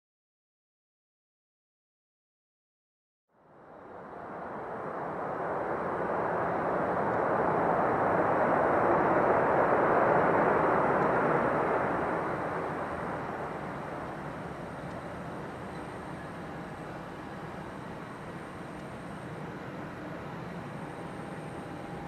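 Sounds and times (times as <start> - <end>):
jet aircraft flying past: 3.5 - 22.0.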